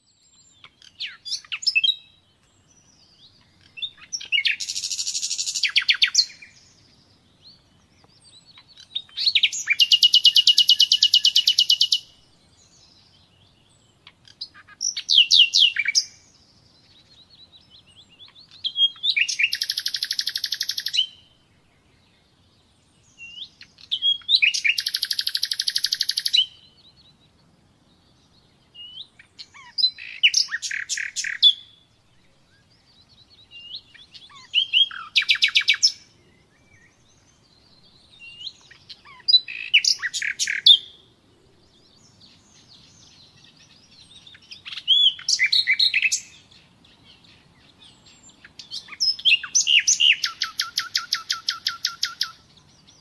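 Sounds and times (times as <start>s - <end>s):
nightingale singing: 0.0s - 53.0s.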